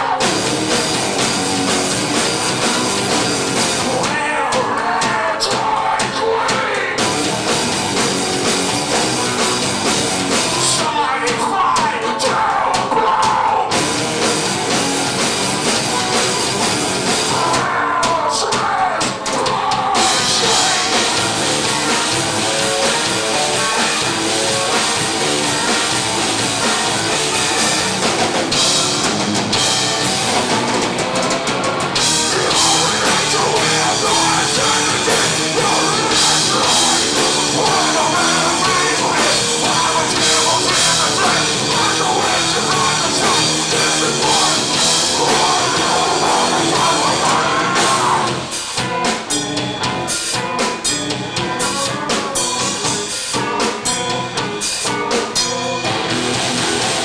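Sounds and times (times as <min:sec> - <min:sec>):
drum kit: 0:00.0 - 0:57.0
live metal band playing: 0:00.0 - 0:57.0
person singing: 0:02.1 - 0:08.1, 0:10.4 - 0:14.0, 0:17.1 - 0:31.3, 0:31.9 - 0:55.9.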